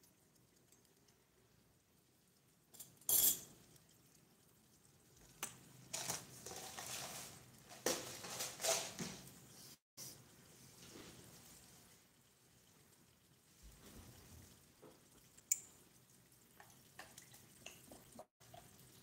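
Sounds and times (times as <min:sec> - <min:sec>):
broth bubbling and popping: 0:00.0 - 0:07.8, 0:10.2 - 0:19.0.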